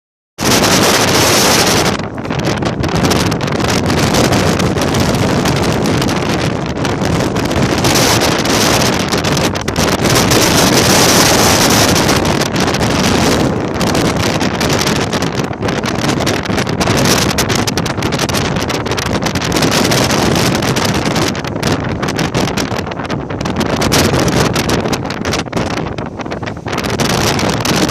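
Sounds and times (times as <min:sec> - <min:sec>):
strong wind buffeting microphone: 0:00.4 - 0:27.9.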